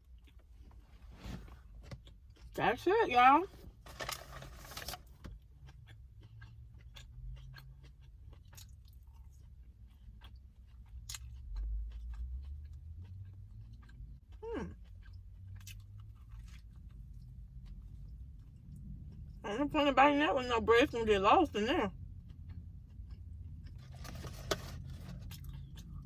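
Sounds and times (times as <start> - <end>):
person chewing food: 0.0 - 2.6, 4.0 - 19.4, 21.9 - 26.0.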